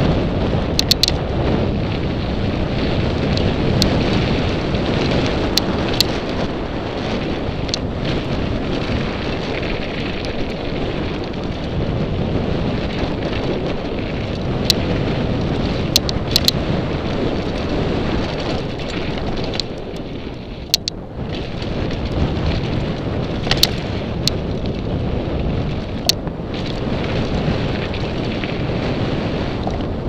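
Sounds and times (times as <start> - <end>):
bike clicks and rattles: 0.0 - 30.0
wind on microphone: 0.0 - 30.0.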